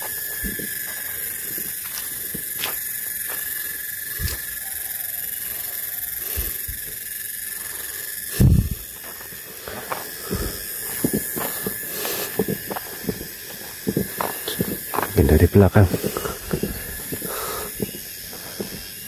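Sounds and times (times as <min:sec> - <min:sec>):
high-pitched outdoor hiss: 0:00.0 - 0:19.0.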